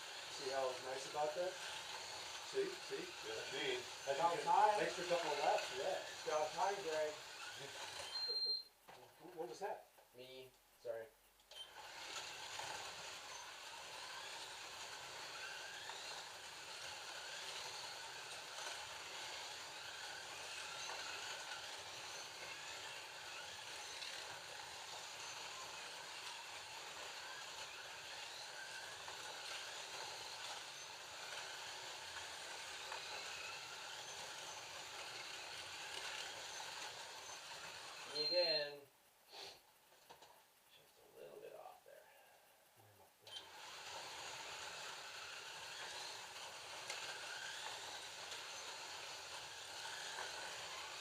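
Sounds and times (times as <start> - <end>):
slot cars motors whirring: 0.0 - 8.5, 11.5 - 38.6, 43.3 - 51.0.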